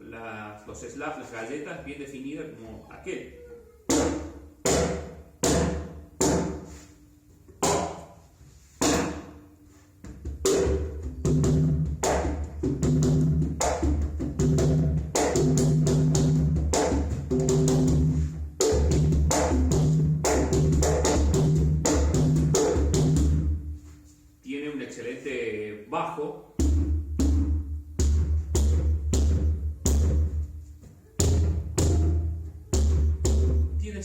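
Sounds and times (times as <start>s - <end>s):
conga slaps and open tones: 3.8s - 24.4s, 26.6s - 34.0s.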